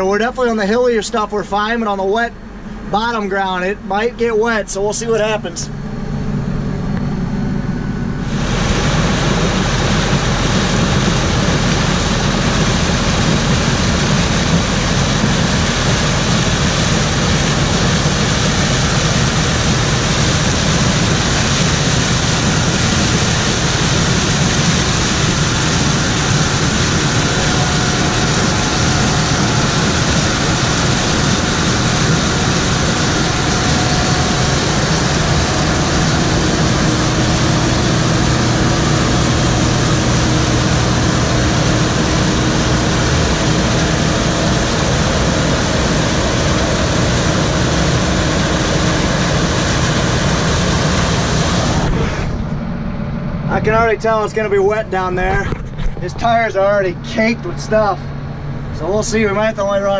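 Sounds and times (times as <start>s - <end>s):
tractor engine running steadily: 0.0s - 59.9s.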